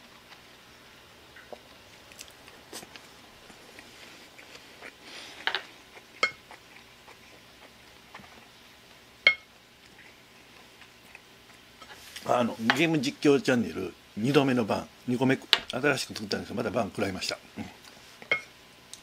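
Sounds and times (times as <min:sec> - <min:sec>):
soft eating sounds: 0:00.0 - 0:19.0.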